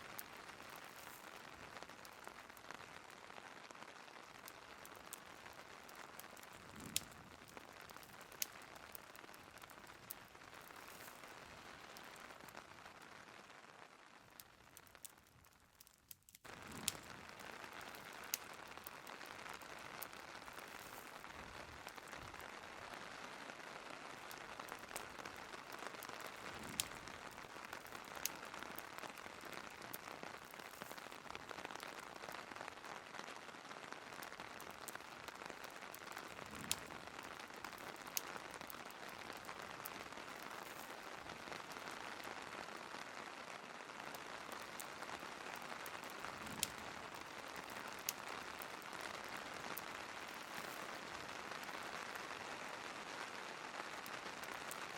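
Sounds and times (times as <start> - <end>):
wood fire crackling pops: 0.0 - 52.7, 53.3 - 54.9
steady rain: 0.0 - 54.9.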